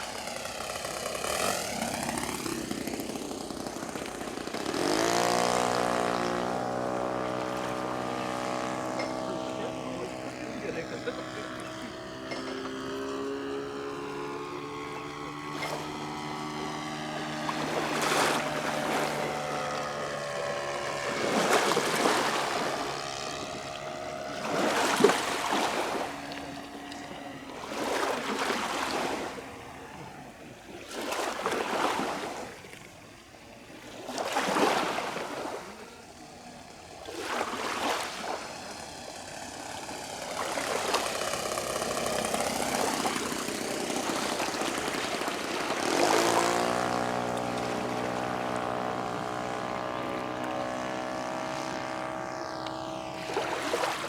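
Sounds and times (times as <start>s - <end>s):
model plane engine running: 0.0s - 54.0s.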